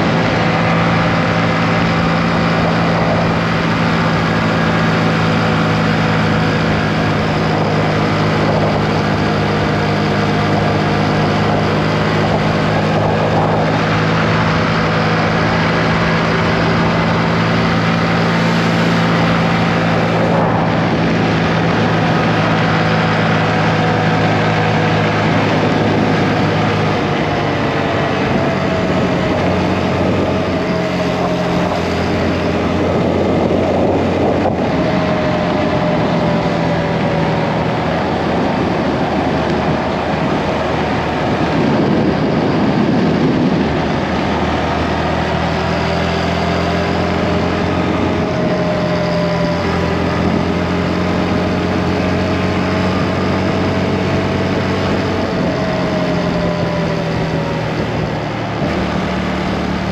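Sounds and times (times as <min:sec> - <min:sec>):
motorcycle engine running: 0:00.0 - 0:59.9
rushing wind noise: 0:00.0 - 0:59.9.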